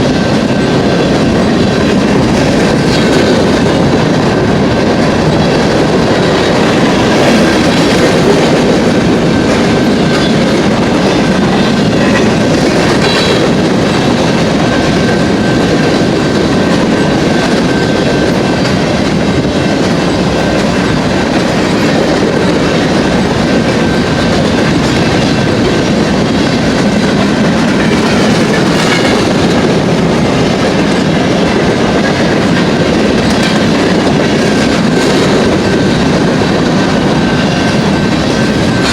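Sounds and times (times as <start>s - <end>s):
clickety-clack over rail joints: 0.0s - 38.9s
train wheels rolling on rails: 0.0s - 38.9s.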